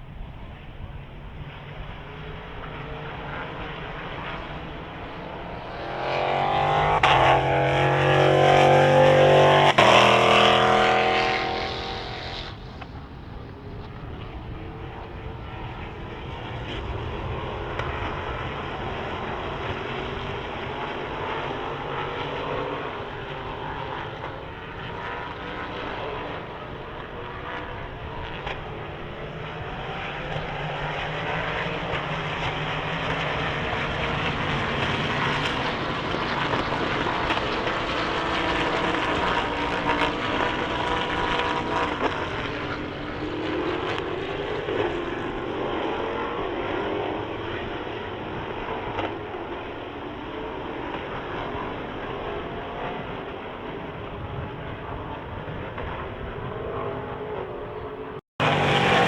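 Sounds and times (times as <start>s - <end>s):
race car engines passing: 0.5s - 59.0s.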